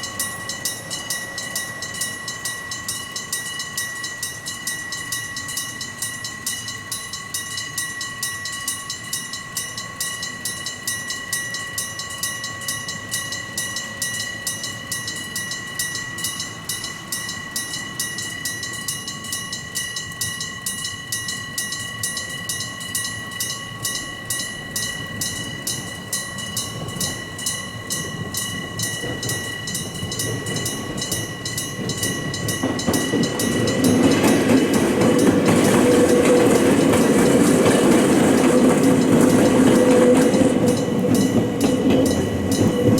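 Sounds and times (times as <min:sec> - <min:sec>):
level crossing warning bells: 0:00.0 - 0:42.9
train running: 0:00.0 - 0:42.9.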